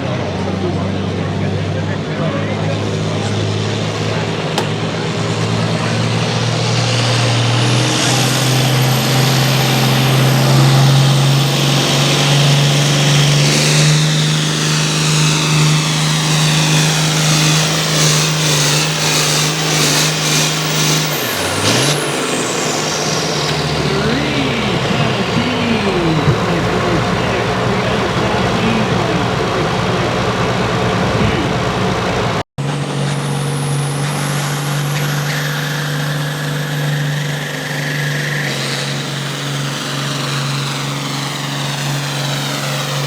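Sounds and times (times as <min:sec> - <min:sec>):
tractor engine at full throttle: 0:00.0 - 0:43.0.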